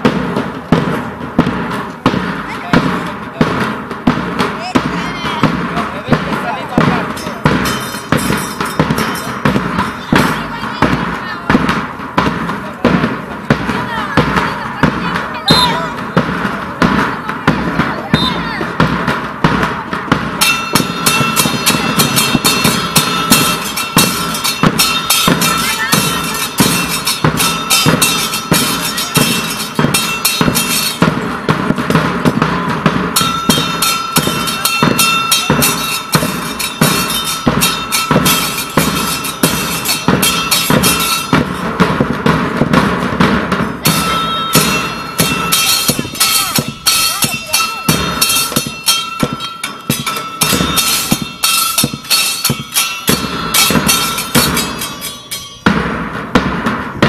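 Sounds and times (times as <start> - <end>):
bass drums beating fast rhythm: 0.0 - 57.0
cymbal strikes ringing: 0.0 - 57.0.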